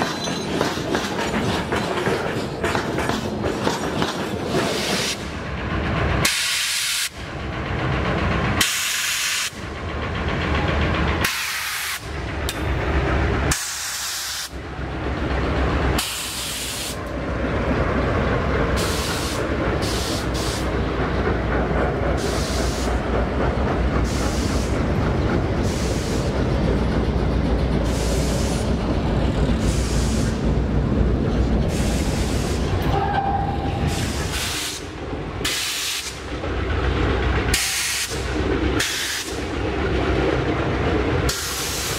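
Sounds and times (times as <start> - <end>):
freight cars rumbling wheels: 0.0 - 41.9
locomotive engine drone: 0.0 - 41.9
wheels screeching on rails: 0.0 - 41.9.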